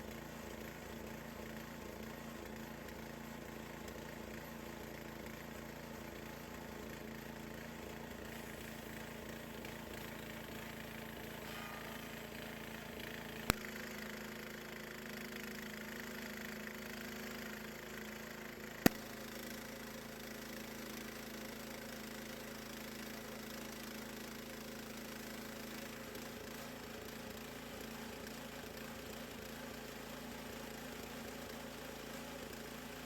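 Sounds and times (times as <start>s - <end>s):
sawmill engine running: 0.0s - 33.0s.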